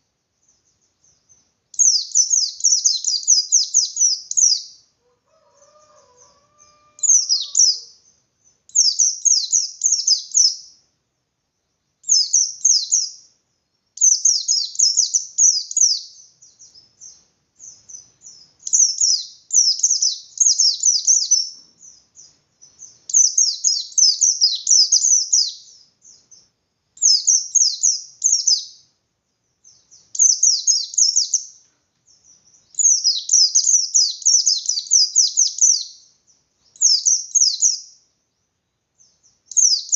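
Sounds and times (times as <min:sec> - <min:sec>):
bird singing rapid scratchy song: 0:00.0 - 0:10.8, 0:11.7 - 0:39.9.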